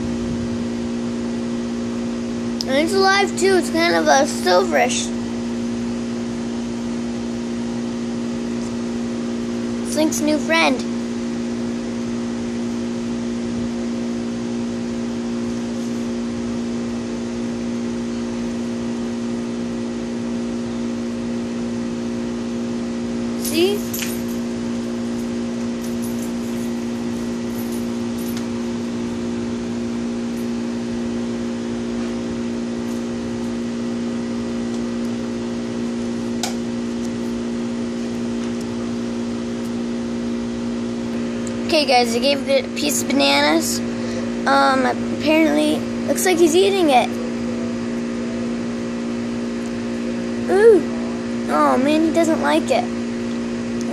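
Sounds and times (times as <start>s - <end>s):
machine humming low: 0.0s - 53.9s.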